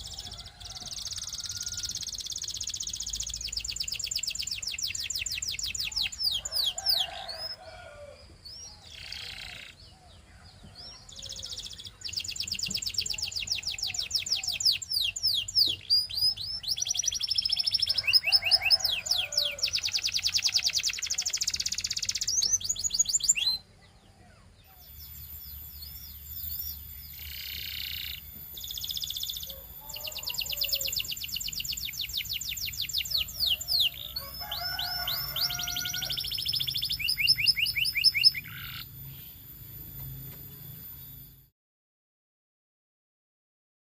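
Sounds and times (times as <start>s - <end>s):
canary singing trills: 0.0s - 41.5s.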